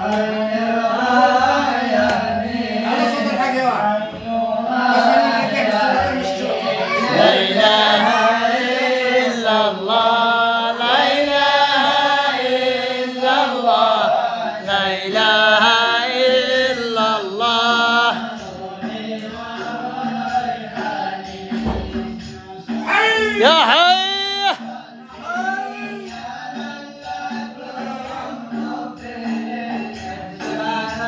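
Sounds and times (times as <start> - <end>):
voices chanting a hymn: 0.0 - 31.0.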